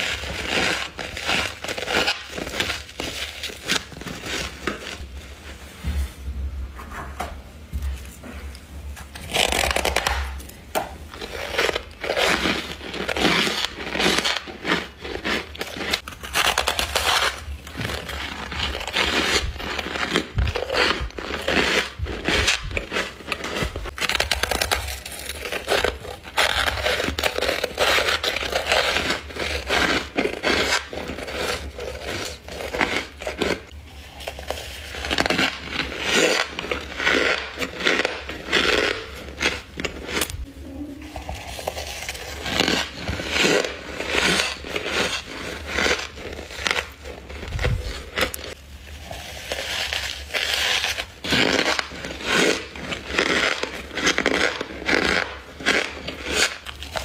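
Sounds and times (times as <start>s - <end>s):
person chewing crunchy frost: 0.0s - 5.0s, 9.1s - 57.0s.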